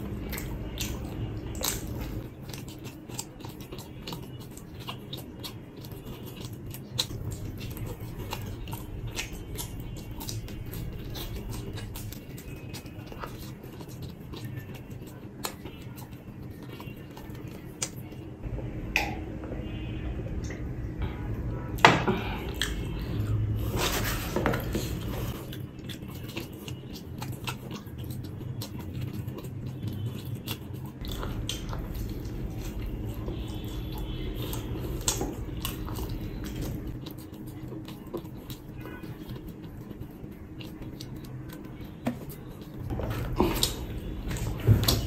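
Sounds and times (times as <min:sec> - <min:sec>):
person chewing food: 0:00.0 - 0:19.2, 0:20.5 - 0:45.0.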